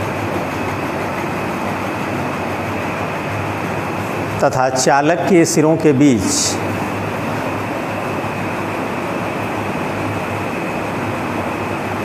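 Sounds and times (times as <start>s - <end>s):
fan hiss and hum: 0.0s - 12.0s.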